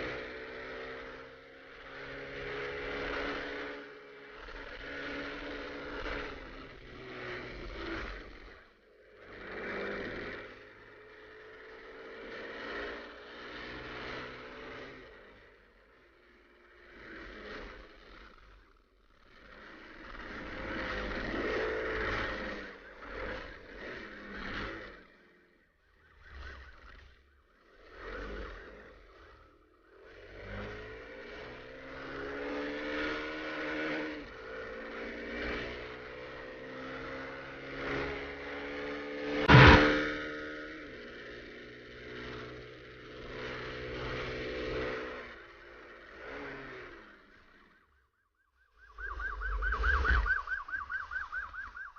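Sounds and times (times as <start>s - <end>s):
motorcycle engine passing: 0.0s - 51.9s.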